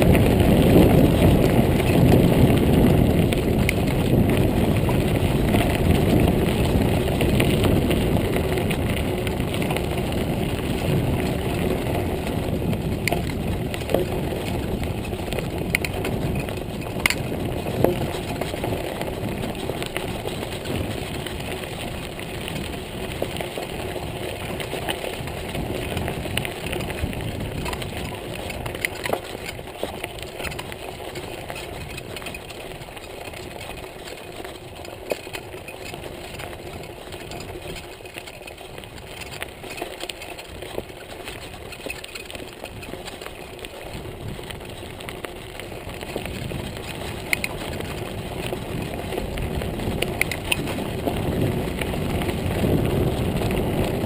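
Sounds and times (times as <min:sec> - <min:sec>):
bike clicks and rattles: 0:00.0 - 0:54.0
bike tyres rumbling on gravel: 0:00.0 - 0:54.0.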